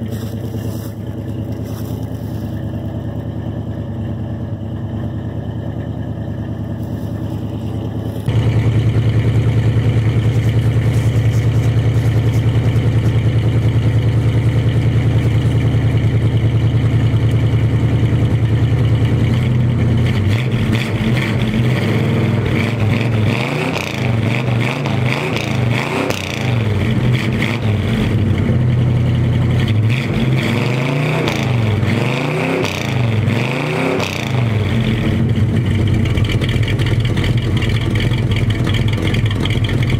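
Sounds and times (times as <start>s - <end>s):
pickup engine idling and revving: 0.0s - 39.9s.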